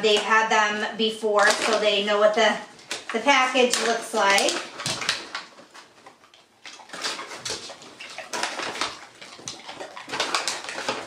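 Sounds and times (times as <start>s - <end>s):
dogs crunching treats: 0.0s - 11.0s.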